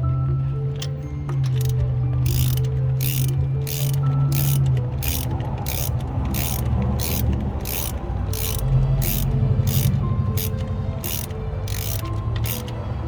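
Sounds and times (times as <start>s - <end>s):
ratchet wrench clicking: 0.8s - 12.8s.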